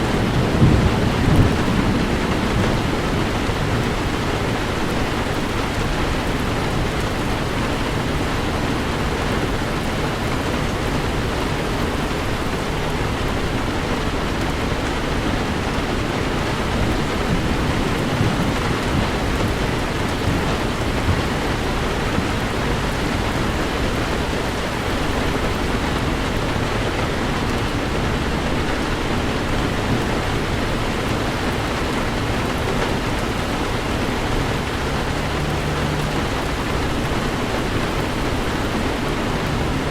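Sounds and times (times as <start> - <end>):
heavy rain on a car: 0.0 - 39.9
low rumble of driving: 0.0 - 39.9.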